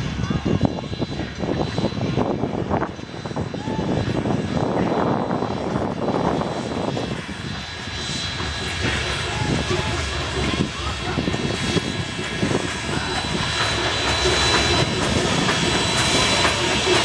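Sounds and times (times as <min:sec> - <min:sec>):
steam train rumbling on rails: 0:00.0 - 0:17.0.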